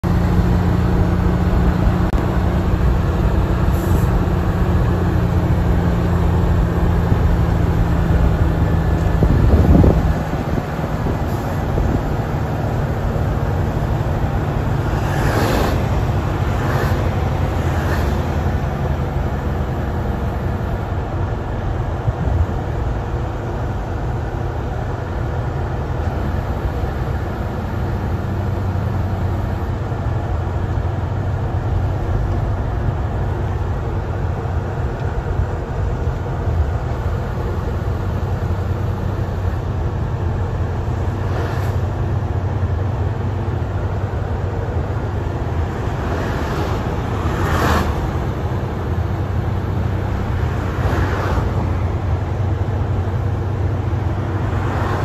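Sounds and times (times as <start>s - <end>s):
vehicle engine and road drone: 0.0s - 55.0s.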